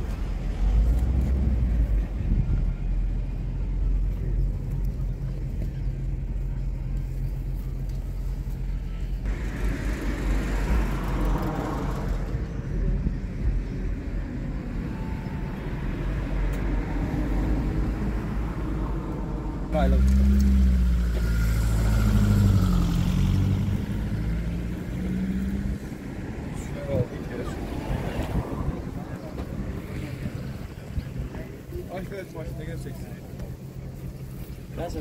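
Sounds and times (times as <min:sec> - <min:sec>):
outdoor background noise: 0:00.0 - 0:35.0
vehicle engine rumbling: 0:00.0 - 0:35.0.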